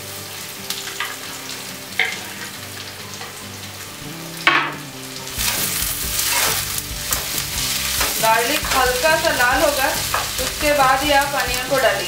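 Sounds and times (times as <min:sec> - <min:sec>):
garlic sizzling in hot oil: 0:00.0 - 0:12.0
onions sizzling in oil: 0:00.0 - 0:12.0.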